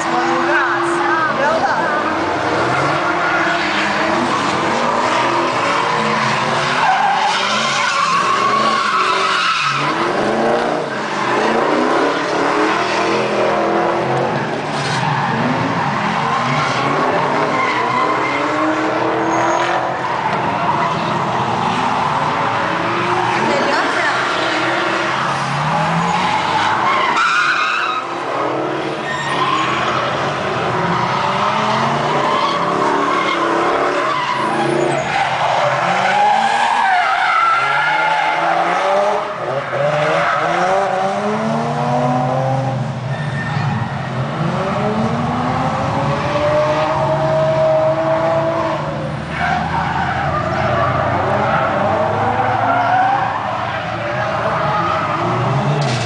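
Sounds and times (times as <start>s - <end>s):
car engines revving: 0.0s - 56.0s
tyres skidding: 0.0s - 56.0s.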